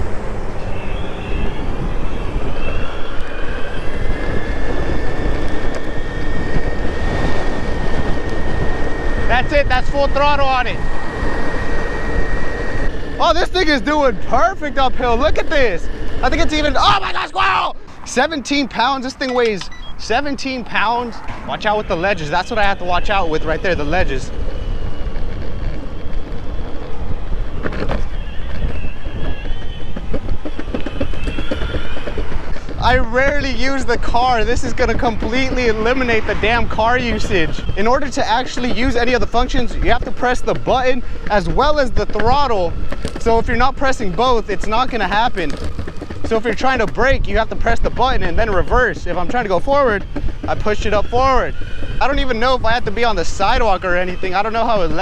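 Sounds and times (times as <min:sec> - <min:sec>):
high electric motor whine: 0:00.0 - 0:55.0
wheel noise on asphalt: 0:00.0 - 0:55.0
wind buffeting microphone: 0:00.0 - 0:55.0.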